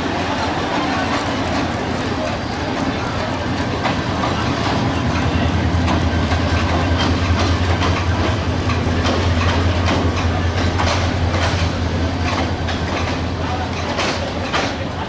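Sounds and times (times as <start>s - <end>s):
locomotive engine hum: 0.0s - 15.0s
train wheels clacking: 0.0s - 15.0s.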